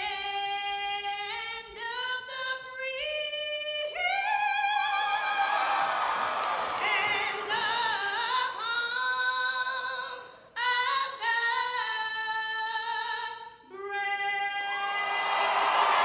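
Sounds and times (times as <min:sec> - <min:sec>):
woman singing unaccompanied: 0:00.0 - 0:05.6, 0:06.8 - 0:15.2.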